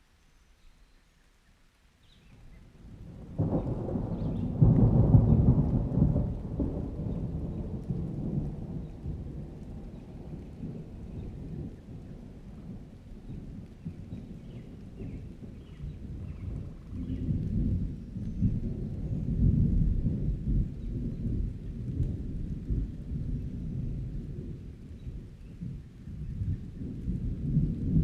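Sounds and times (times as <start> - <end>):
thunderclap with low rumble: 2.5 - 28.0.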